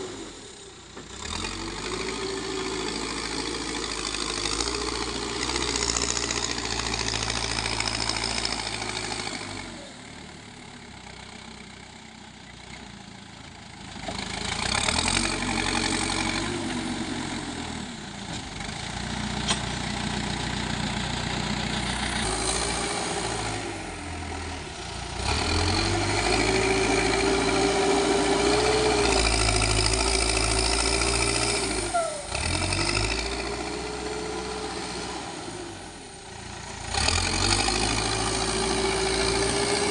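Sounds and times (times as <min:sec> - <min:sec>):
diesel engine revving: 0:00.0 - 0:11.2, 0:13.8 - 0:39.9.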